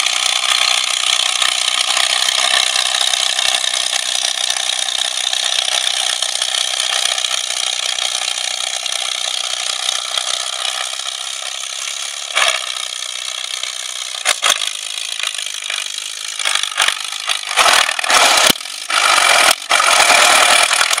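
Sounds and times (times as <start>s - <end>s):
tractor engine running under load: 0.0s - 21.0s.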